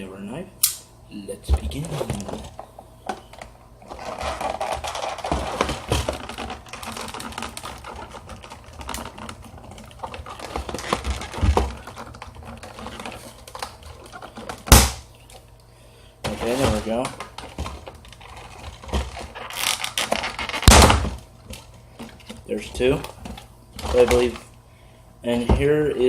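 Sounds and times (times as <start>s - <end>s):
packaging crinkling: 1.8s - 15.6s, 16.3s - 24.6s.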